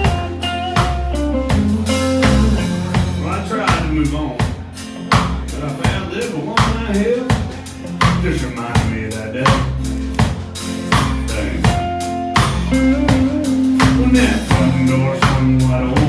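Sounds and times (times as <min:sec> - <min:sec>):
country band playing: 0:00.0 - 0:16.0
drum kit beat: 0:00.0 - 0:16.0.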